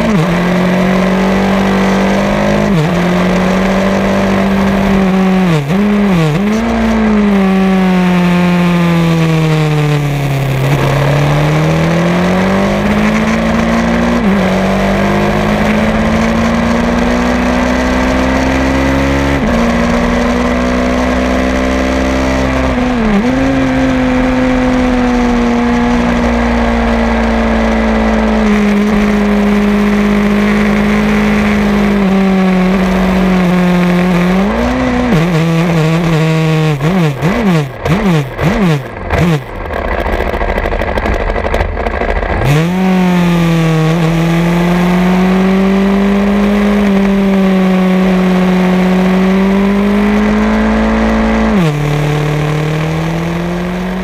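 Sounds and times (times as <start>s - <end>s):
racing motorcycle engine: 0.0s - 54.0s
wind noise: 0.0s - 54.0s.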